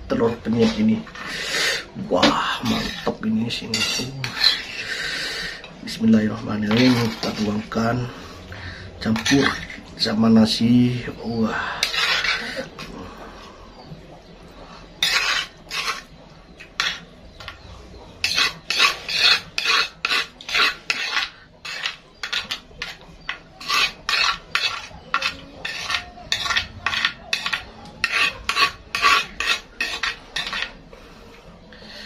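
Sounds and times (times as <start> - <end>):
metal spoon scraping mortar: 0.2 - 13.1, 14.8 - 31.0.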